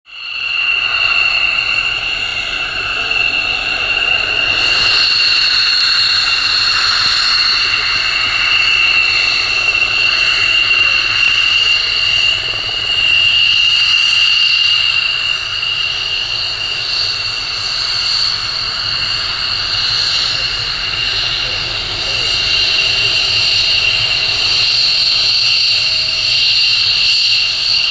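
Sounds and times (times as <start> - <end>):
jet engine whining: 0.1 - 27.9.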